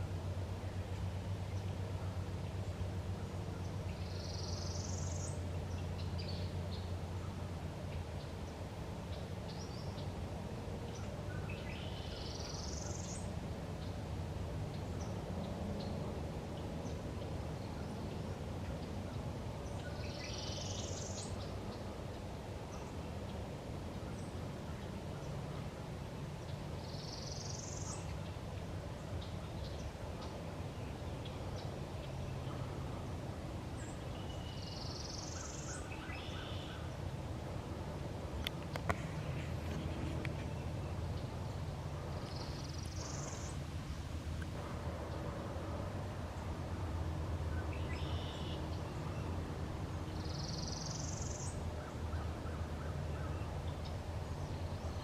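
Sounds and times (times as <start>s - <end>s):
low background rumble: 0.0s - 55.0s
songbird singing: 0.0s - 55.0s.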